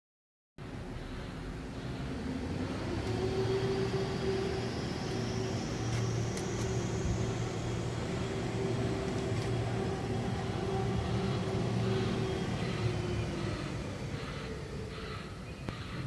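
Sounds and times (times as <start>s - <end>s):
truck engine and road drone: 0.6s - 16.0s
high whine rising in pitch: 1.0s - 15.0s.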